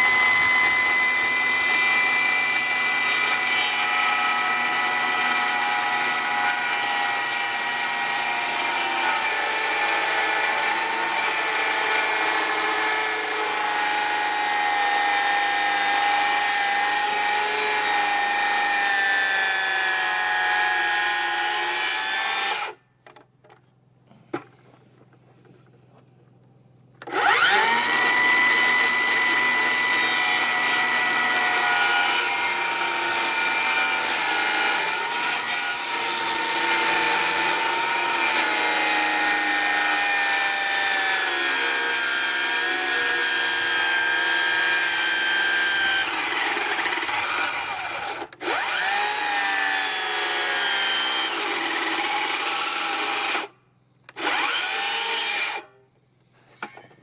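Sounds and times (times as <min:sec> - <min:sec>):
power tool motor whining: 0:00.0 - 0:22.8, 0:27.0 - 0:53.5, 0:54.1 - 0:55.7.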